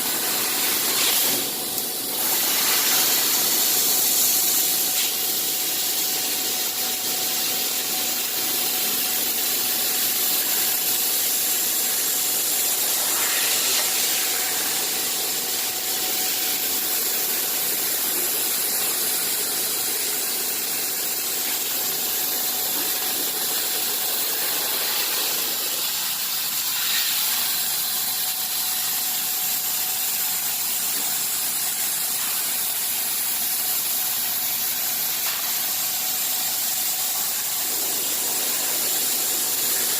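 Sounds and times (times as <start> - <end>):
machine hiss: 0.0 - 39.9.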